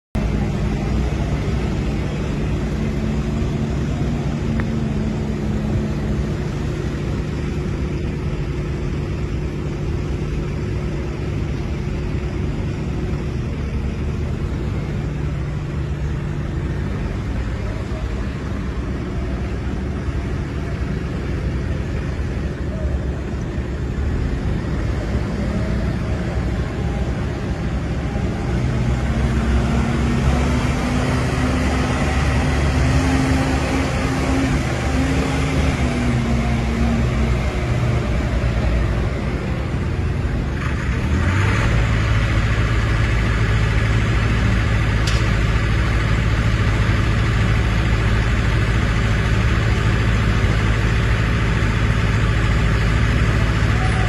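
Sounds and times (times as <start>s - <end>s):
diesel engine running: 0.2s - 54.0s.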